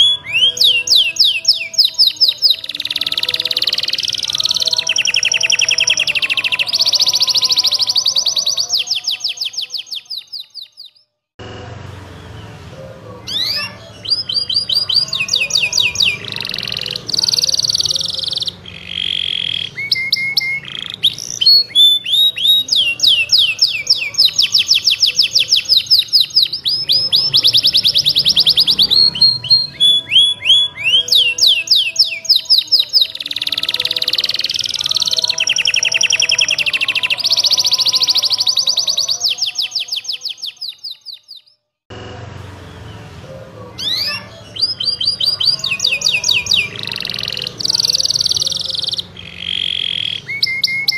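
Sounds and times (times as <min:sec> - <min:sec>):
canary singing trills: 0:00.0 - 0:11.1, 0:12.2 - 0:41.6, 0:42.5 - 0:50.9.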